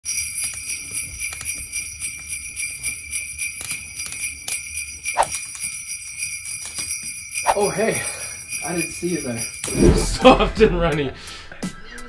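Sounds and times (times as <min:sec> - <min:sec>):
sleigh bells jingling: 0:00.0 - 0:10.4.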